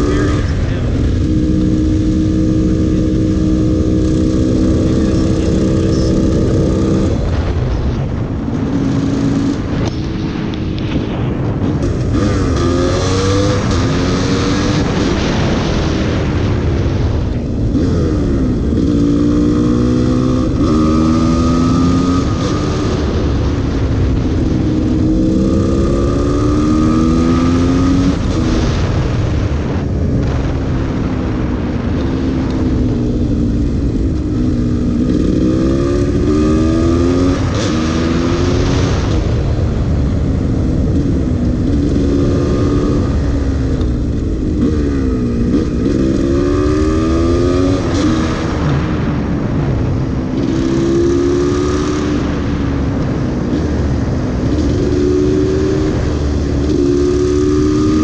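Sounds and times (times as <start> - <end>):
motorcycle engine accelerating: 0.0 - 58.0
wind noise: 0.0 - 58.0.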